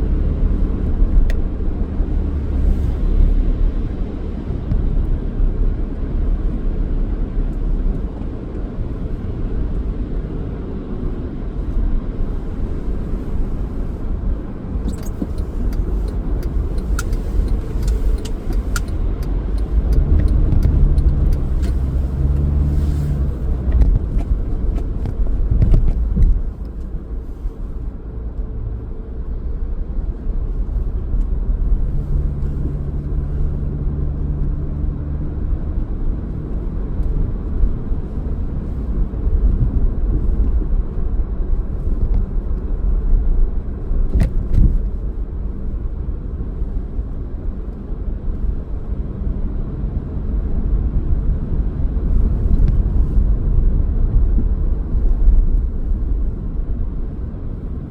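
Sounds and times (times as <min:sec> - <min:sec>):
car engine rumble: 0:00.0 - 0:57.9
road noise: 0:00.0 - 0:57.9.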